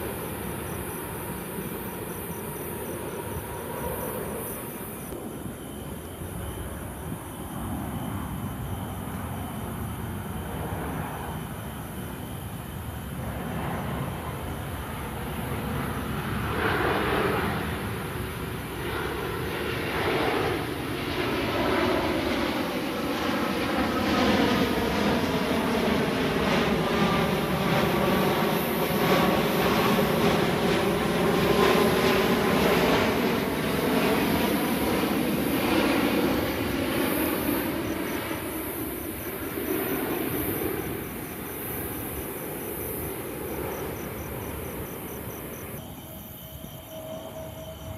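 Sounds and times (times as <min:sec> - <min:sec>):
jet airliner passing overhead: 0:00.0 - 0:47.9.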